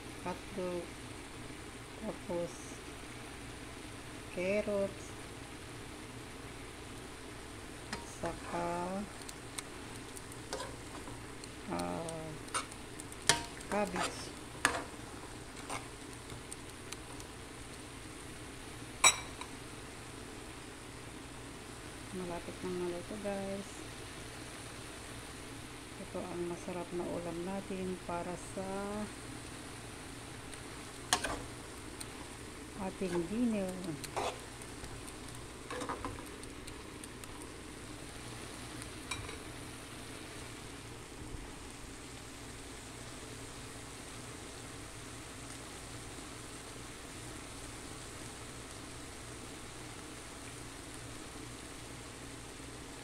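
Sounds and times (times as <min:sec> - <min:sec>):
faint steady hiss: 0:00.0 - 0:53.0
noodles sizzling in a pot: 0:02.7 - 0:26.2, 0:27.6 - 0:53.0.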